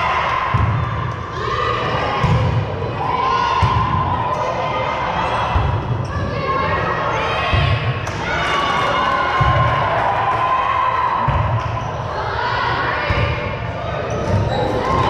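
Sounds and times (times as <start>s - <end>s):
players and spectators calling: 0.0s - 15.0s.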